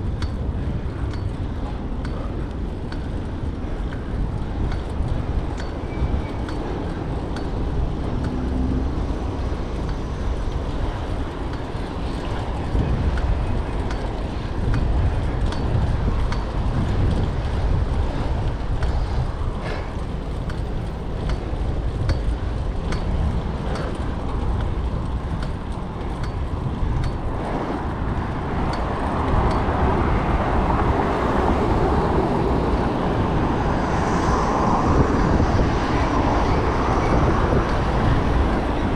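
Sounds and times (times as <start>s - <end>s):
city traffic: 0.0s - 38.9s
wind rushing over microphone: 0.0s - 38.9s.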